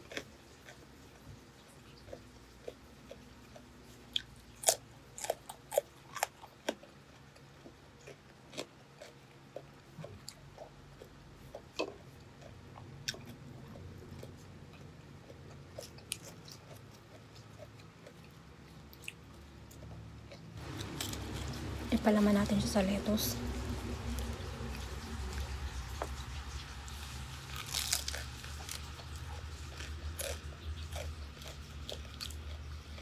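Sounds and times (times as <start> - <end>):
crisp food crunching: 0.0 - 22.4, 23.4 - 33.0.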